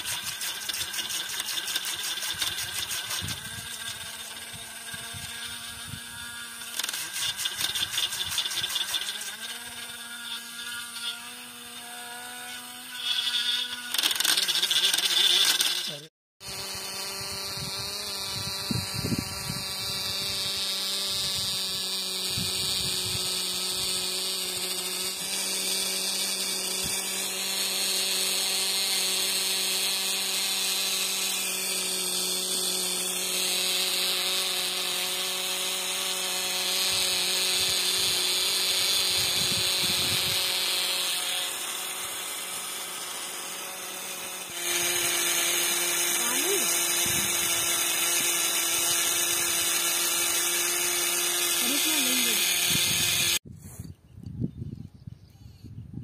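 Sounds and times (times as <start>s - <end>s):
small electric motor whine: 0.0s - 54.6s.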